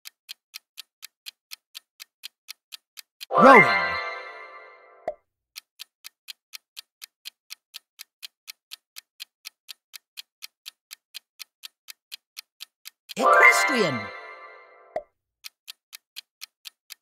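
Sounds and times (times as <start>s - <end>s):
clock ticking: 0.0s - 17.0s.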